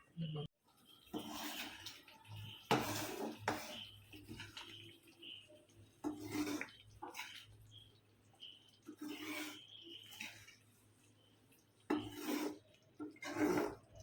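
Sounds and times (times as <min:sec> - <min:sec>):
gravy simmering: 0:00.1 - 0:14.0
spoon scraping a pan: 0:00.7 - 0:14.0.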